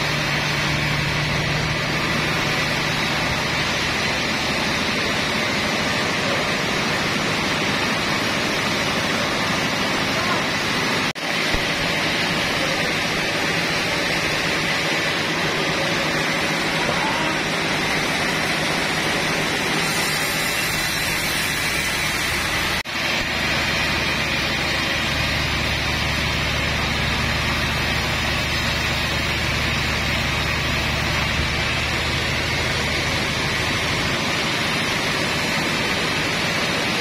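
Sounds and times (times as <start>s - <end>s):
sawmill machinery running: 0.0s - 37.0s.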